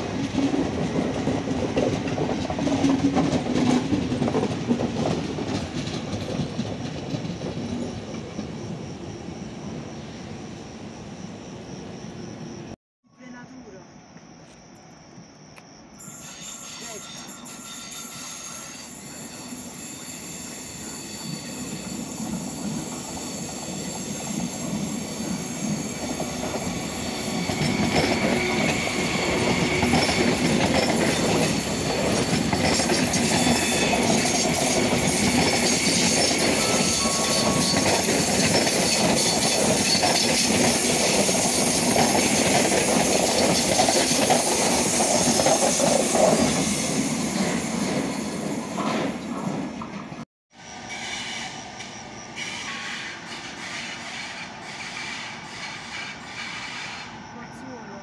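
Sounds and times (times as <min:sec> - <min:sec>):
high-speed train passing: 0:00.0 - 0:12.8, 0:16.0 - 0:58.0.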